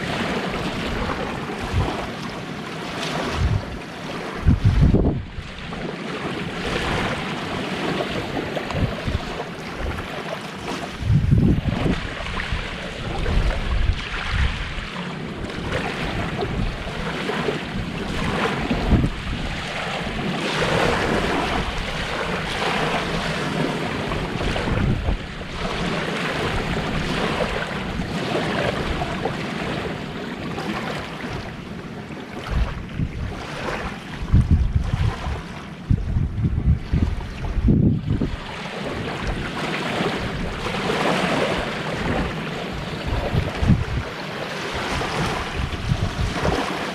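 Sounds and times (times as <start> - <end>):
sea waves washing ashore: 0.0 - 46.9
wind buffeting microphone: 0.0 - 46.9.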